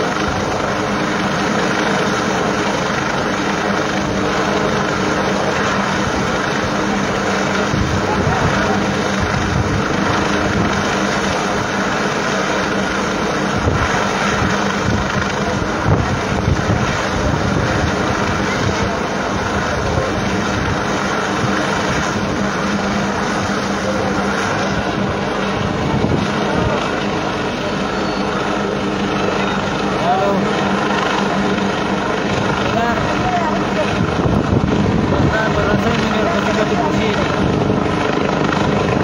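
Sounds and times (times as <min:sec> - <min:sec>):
helicopter hovering: 0:00.0 - 0:39.0
wind buffeting microphone: 0:00.0 - 0:39.0.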